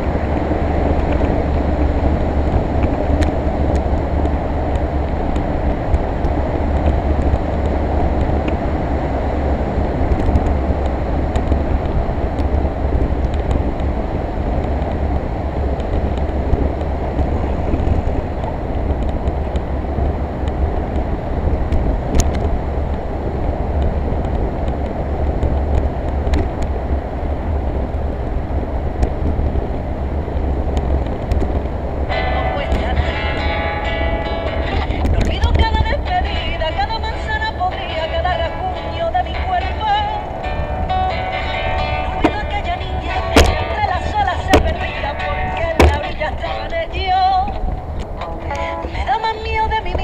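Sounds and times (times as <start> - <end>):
strong wind on microphone: 0.0 - 50.0.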